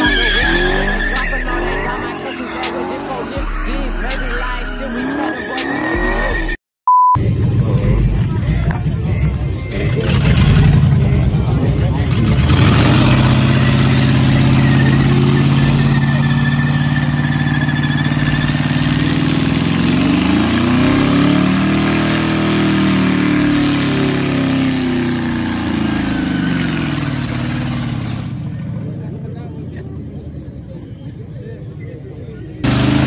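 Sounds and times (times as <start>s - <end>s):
truck engine at high revs: 0.0s - 6.6s, 7.2s - 29.5s, 32.6s - 33.0s.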